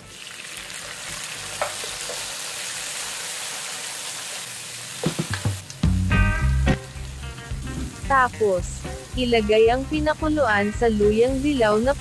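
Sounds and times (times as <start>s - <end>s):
vegetables sizzling in hot oil: 0.0s - 6.0s, 6.8s - 12.0s.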